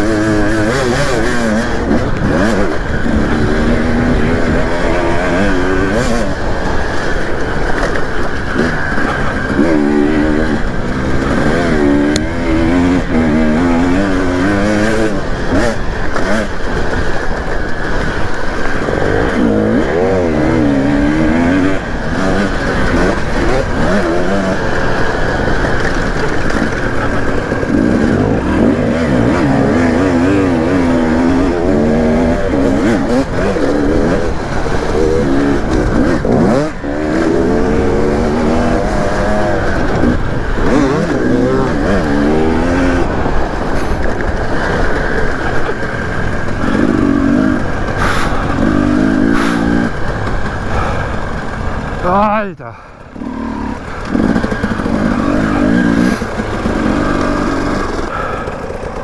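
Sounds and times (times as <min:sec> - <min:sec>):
dirt bike engine revving: 0:00.0 - 0:59.0
steady rushing noise: 0:00.0 - 0:59.0.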